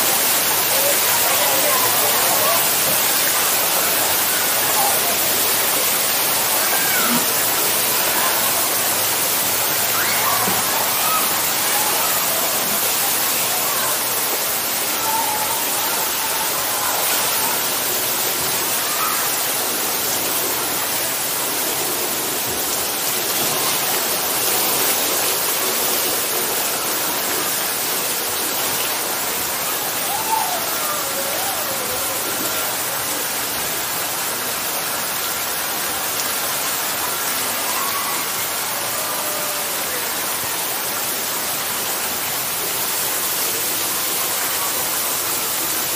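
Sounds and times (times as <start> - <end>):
running water: 0.0 - 45.9
steady rain: 0.0 - 45.9.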